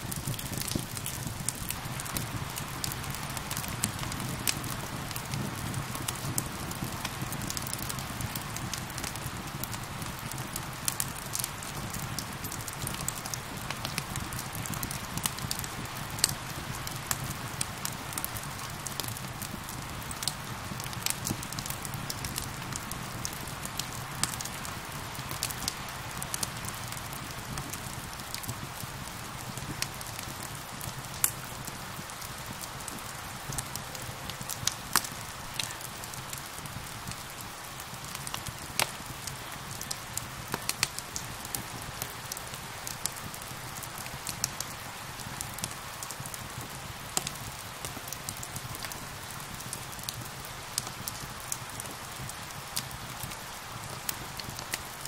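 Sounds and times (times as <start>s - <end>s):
steady rain: 0.0s - 55.0s
wood fire crackling: 0.0s - 55.0s.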